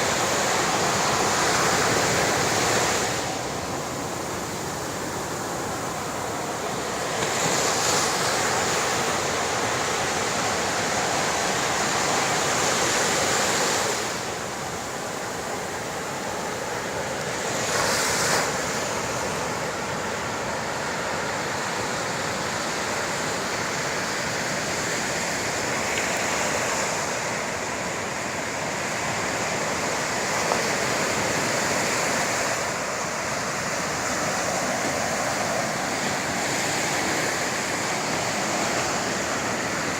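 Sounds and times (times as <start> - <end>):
sea surf washing: 0.0 - 39.9.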